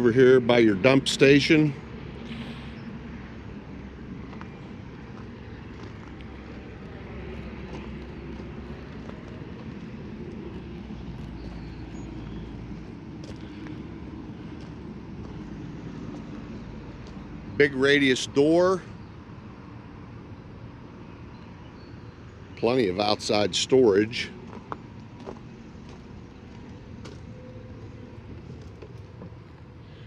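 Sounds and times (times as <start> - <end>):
outdoor background rumble: 0.0 - 30.0.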